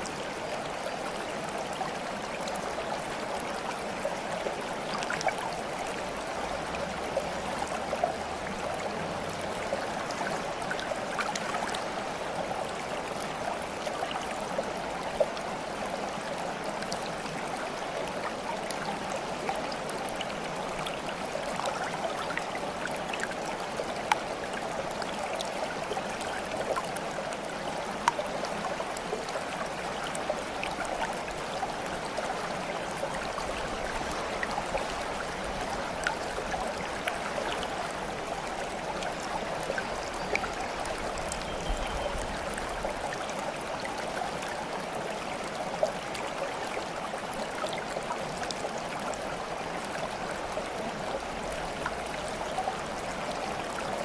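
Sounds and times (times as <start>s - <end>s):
water flowing: 0.0s - 54.0s.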